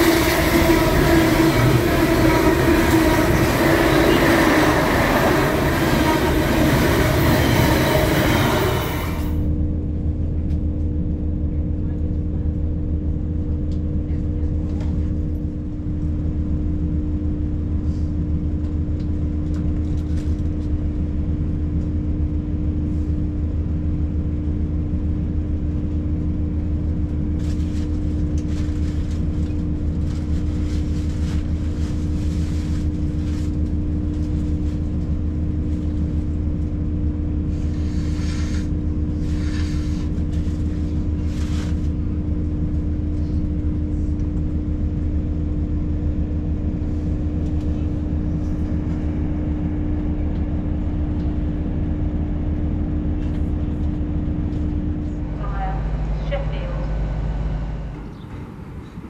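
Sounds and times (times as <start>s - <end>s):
diesel train engine hum: 0.0s - 59.0s.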